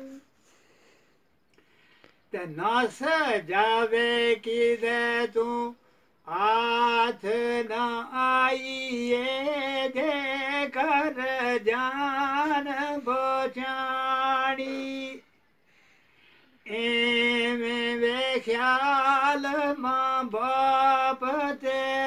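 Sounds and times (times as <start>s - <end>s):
elderly man singing unaccompanied: 0.0s - 0.4s, 2.2s - 15.8s, 16.4s - 22.0s.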